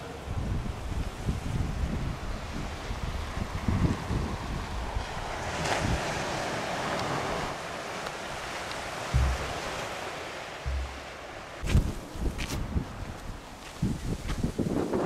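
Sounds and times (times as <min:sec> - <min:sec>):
gentle surf on shore: 0:00.0 - 0:15.0
wind rumbling on microphone: 0:00.2 - 0:15.0.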